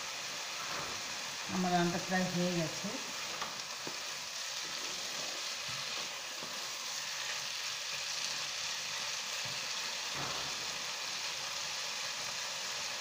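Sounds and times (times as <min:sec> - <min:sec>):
beans sizzling in hot oil: 0:00.0 - 0:13.0.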